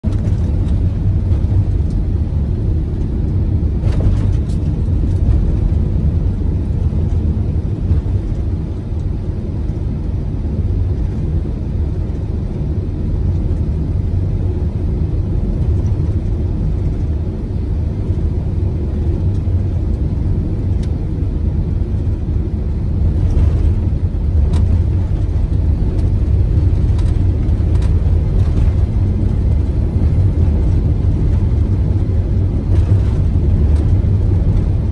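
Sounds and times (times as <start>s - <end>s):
vehicle driving on snowy road: 0.0s - 34.9s.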